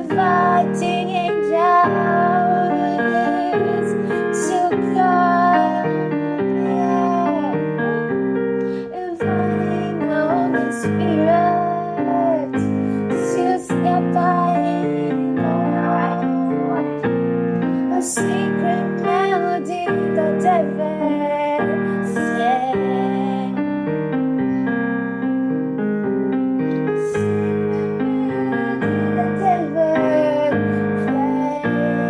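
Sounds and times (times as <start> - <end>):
woman singing wordless melody: 0.0 - 8.0, 8.7 - 17.1, 17.8 - 23.9, 26.9 - 32.0
piano and keyboard chords: 0.0 - 32.0.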